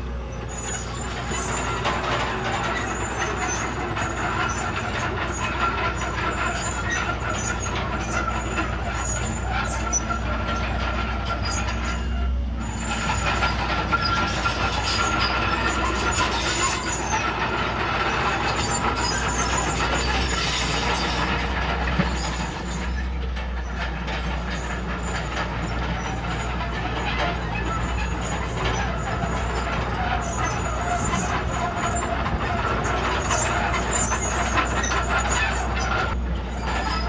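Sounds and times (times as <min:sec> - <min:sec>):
bulldozer diesel engine running: 0:00.0 - 0:37.0
steel tracks clattering: 0:00.0 - 0:37.0.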